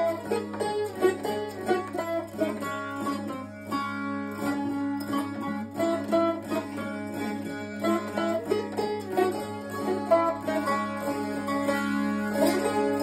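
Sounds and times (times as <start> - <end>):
zither strummed: 0.0 - 13.0.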